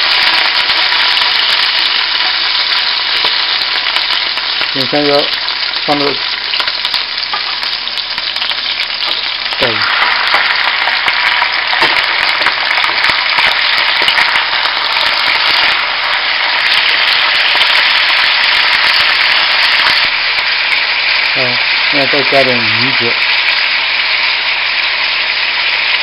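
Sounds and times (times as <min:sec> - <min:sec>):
oil sizzling in a wok: 0:00.0 - 0:26.0.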